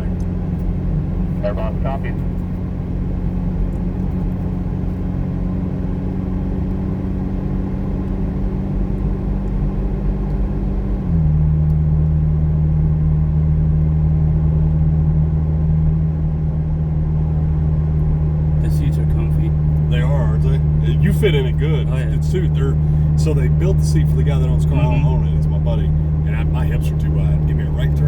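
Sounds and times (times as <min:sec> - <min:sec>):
car engine humming: 0:00.0 - 0:28.0.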